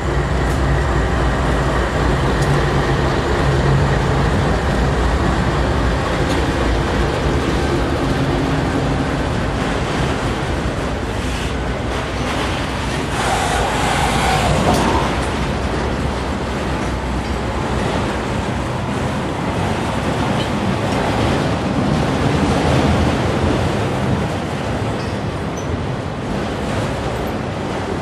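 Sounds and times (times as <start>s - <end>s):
freight cars rolling on rails: 0.0s - 28.0s.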